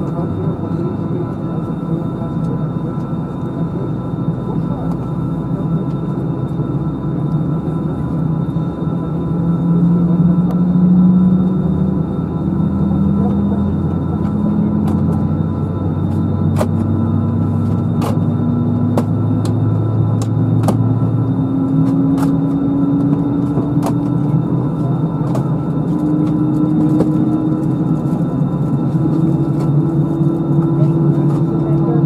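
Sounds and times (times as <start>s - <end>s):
aircraft engine hum: 0.0s - 32.0s.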